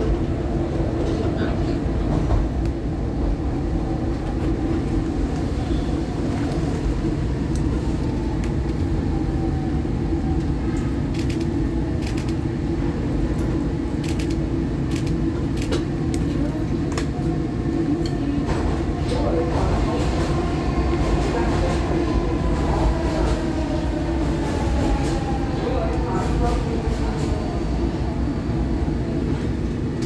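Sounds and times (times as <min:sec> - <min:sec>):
train wheels and motors rumbling: 0:00.0 - 0:30.0.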